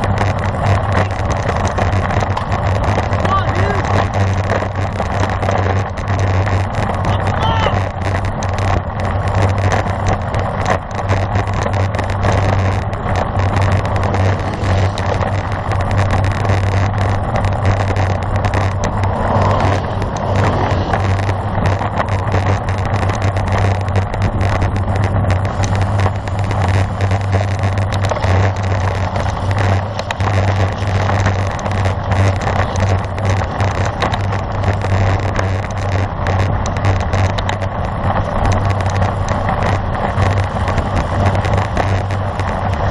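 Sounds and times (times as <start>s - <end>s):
low rumble: 0.0s - 42.9s
wind rushing on microphone: 0.0s - 42.9s.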